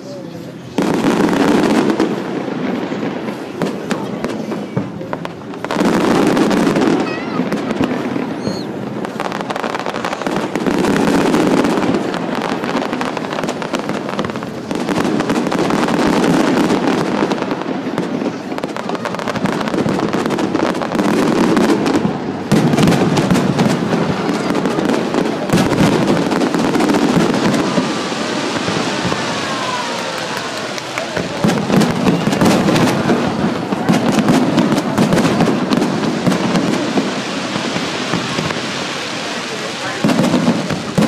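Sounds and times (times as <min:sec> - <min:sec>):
fireworks bangs and crackling: 0:00.0 - 0:41.0.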